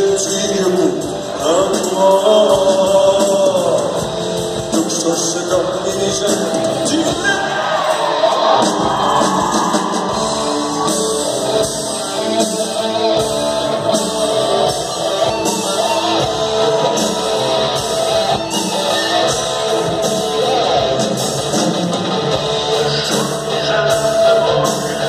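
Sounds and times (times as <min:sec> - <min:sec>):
person singing: 0:00.0 - 0:20.9, 0:22.3 - 0:25.0
live rock band playing: 0:00.0 - 0:25.0.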